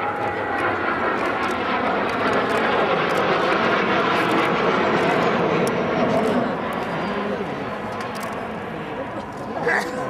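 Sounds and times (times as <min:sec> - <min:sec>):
jet aircraft flying overhead: 0:00.0 - 0:10.0.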